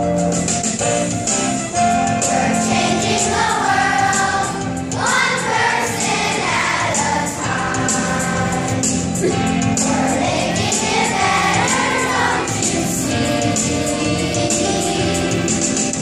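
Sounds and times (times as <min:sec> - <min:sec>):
choir singing with accompaniment: 0:01.7 - 0:16.0.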